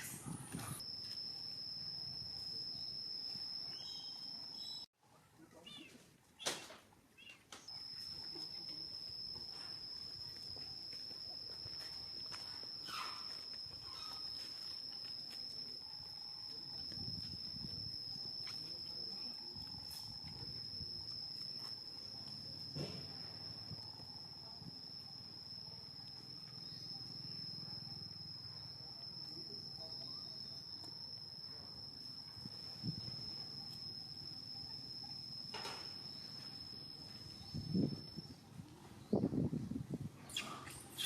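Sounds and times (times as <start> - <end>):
high-pitched insect drone: 0.0 - 4.9, 7.6 - 41.0.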